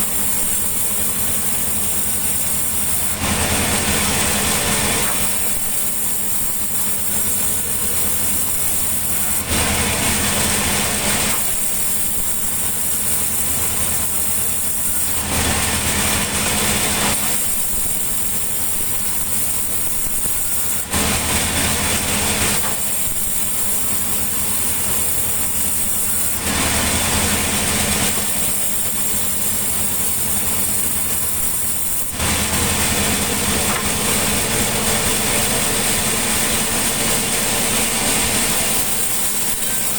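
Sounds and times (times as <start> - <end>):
loud hissing noise: 0.0 - 39.9
sawmill engine hum: 0.0 - 39.9.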